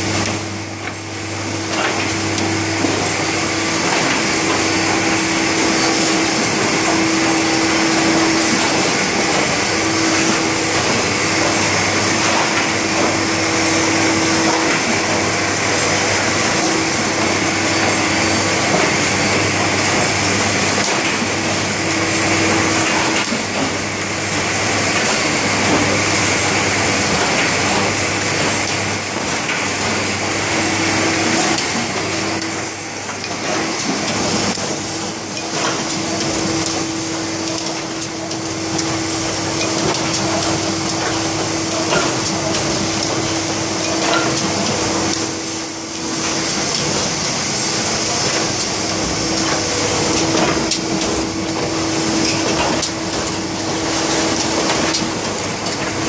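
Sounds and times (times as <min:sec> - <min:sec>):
machine running with hum: 0:00.0 - 0:56.0.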